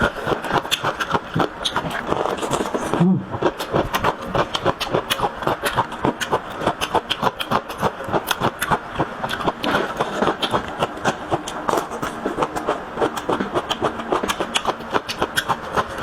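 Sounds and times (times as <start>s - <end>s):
person chewing and mouth smacking: 0.0s - 16.0s.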